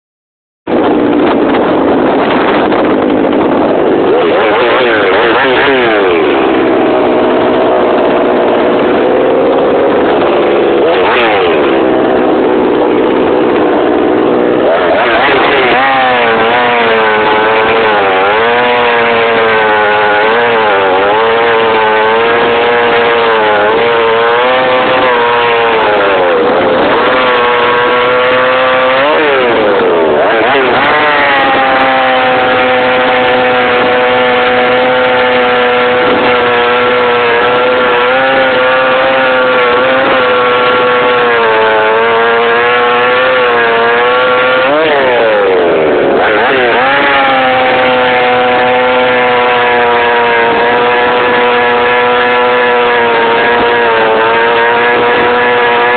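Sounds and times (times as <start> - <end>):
chainsaw engine running: 0.7 - 55.9.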